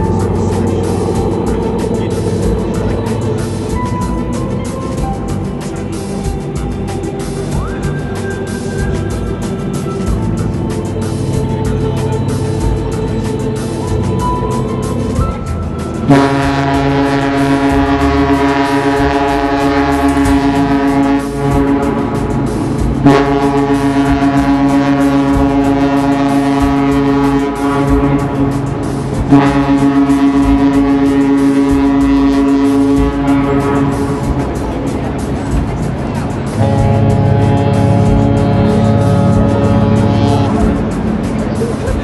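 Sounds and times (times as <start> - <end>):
deep ship horn blasts: 0.0 - 7.8, 8.8 - 42.0.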